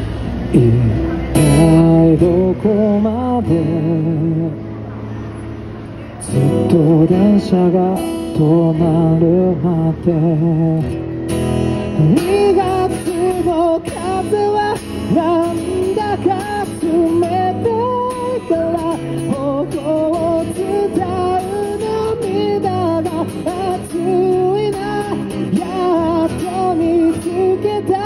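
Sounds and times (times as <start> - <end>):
acoustic guitar strumming: 0.0 - 28.0
man singing with vibrato: 0.5 - 4.7, 6.2 - 11.1, 11.8 - 28.0.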